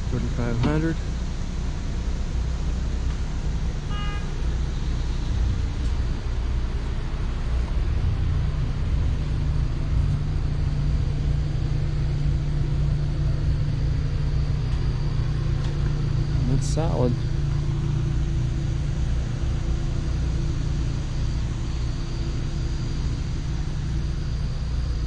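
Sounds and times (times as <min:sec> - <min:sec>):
steady low hum: 0:00.0 - 0:25.0
vehicle engine running: 0:00.0 - 0:25.0.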